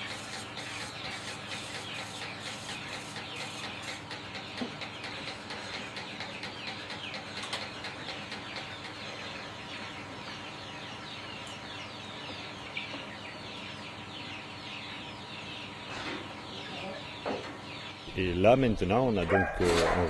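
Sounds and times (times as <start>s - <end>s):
fowl and birds chirping clucking: 0.0s - 18.1s, 19.2s - 20.0s.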